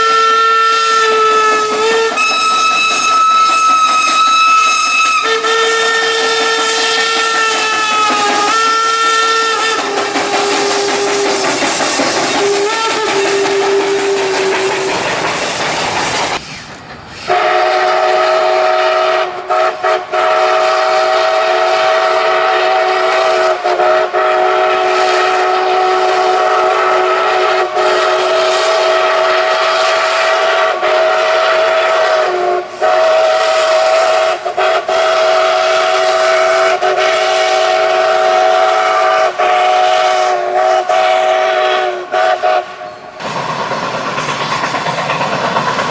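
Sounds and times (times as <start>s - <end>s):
train whistle chord: 0.0s - 11.5s, 12.3s - 14.9s, 17.3s - 43.2s
hiss: 0.0s - 45.9s.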